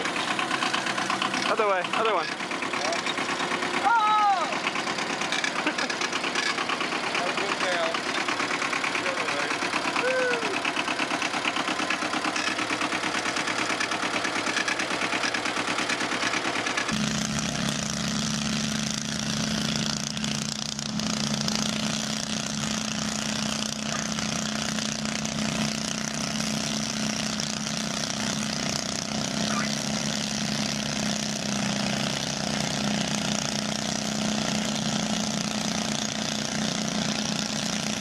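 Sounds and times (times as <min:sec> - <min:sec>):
engine low hum: 0:00.0 - 0:38.0
engine running with fast pulse: 0:00.0 - 0:38.0.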